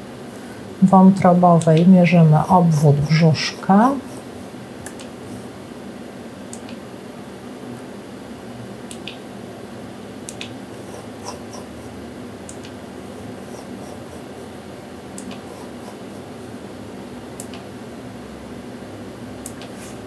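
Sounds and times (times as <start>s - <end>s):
cooling fan hum: 0.0s - 20.0s.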